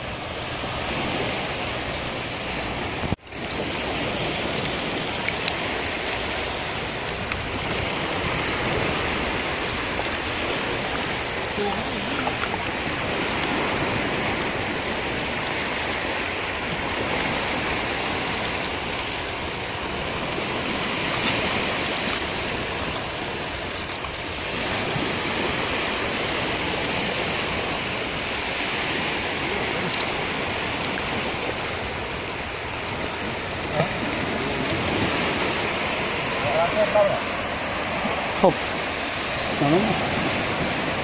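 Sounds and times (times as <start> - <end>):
surf washing onto beach: 0.0 - 41.0.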